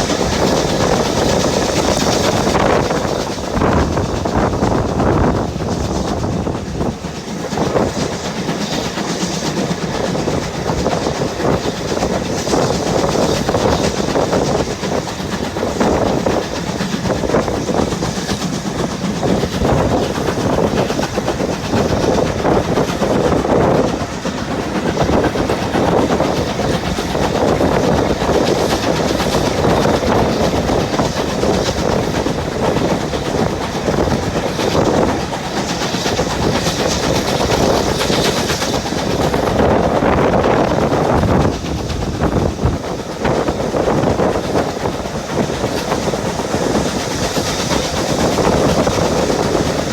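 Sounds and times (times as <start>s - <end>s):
train wheels on rails: 0.0s - 49.9s.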